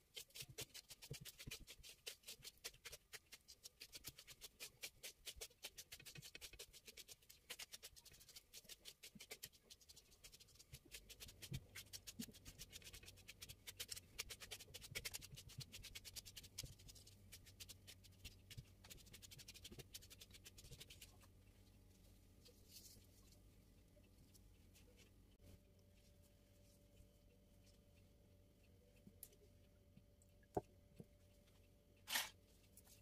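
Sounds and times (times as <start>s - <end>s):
faint low hum: 0.0s - 33.0s
light rapid clicking and scratching: 0.0s - 33.0s.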